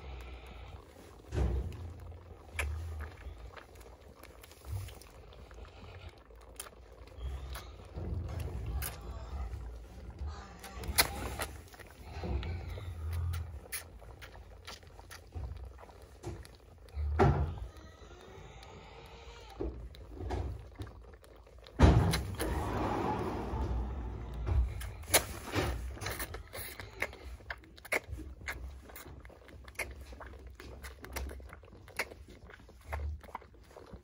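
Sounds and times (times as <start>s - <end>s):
calf sucking from bottle: 0.0s - 34.0s.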